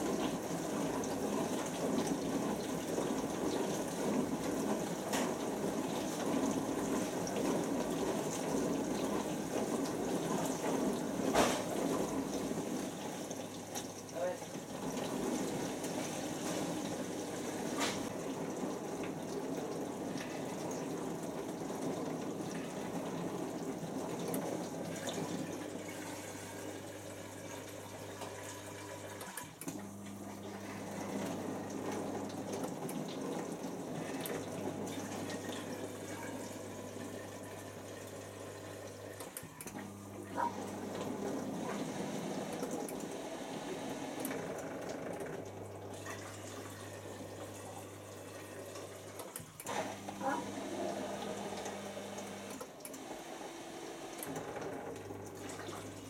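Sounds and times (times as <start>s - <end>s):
water spraying and sloshing: 0.0s - 29.6s, 30.2s - 56.0s
dishwasher pump hum: 0.0s - 56.0s.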